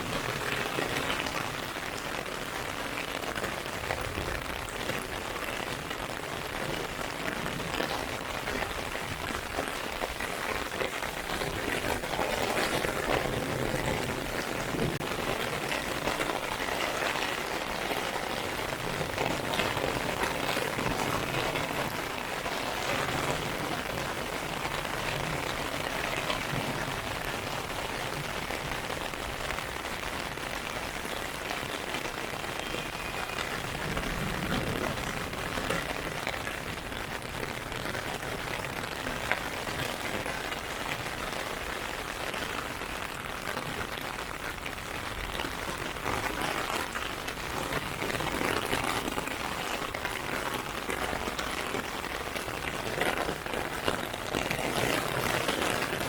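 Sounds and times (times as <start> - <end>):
heavy rain on an umbrella: 0.0 - 56.0.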